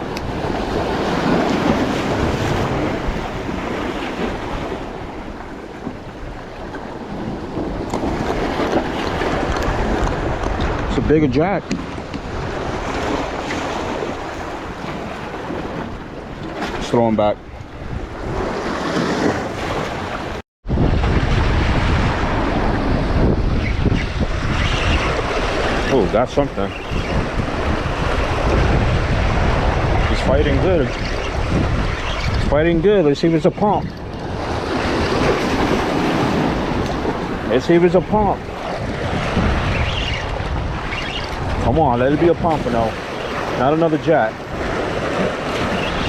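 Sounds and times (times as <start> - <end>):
surf rushing: 0.0 - 11.6, 12.3 - 46.0
wind buffeting microphone: 0.0 - 46.0.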